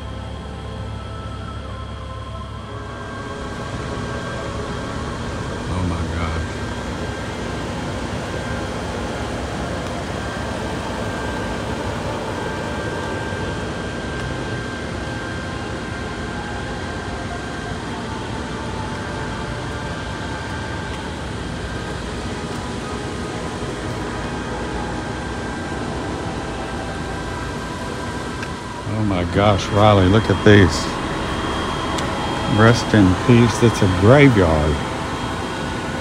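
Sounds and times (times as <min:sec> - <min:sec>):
faint steady tones: 0:00.0 - 0:36.0
mechanical hum and hiss: 0:00.0 - 0:36.0.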